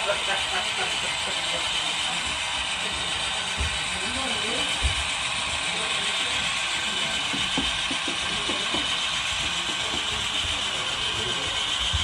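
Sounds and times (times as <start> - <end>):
model train mechanical whir: 0.0 - 12.0.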